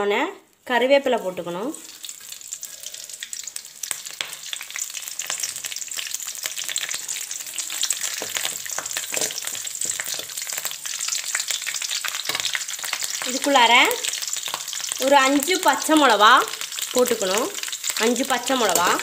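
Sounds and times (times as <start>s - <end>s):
leaves crackling in hot oil: 0.6s - 19.0s.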